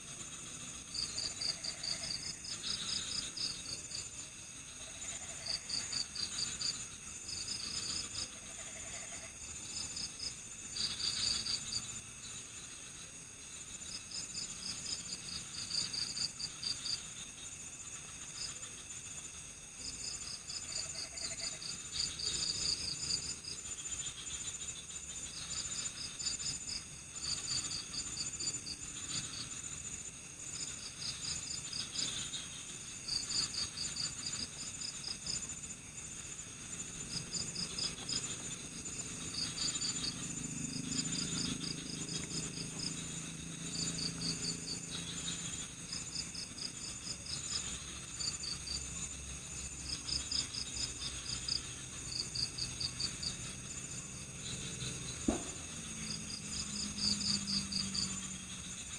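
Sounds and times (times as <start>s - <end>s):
crickets chirping: 0.0s - 58.9s
high-pitched insect drone: 0.1s - 58.9s.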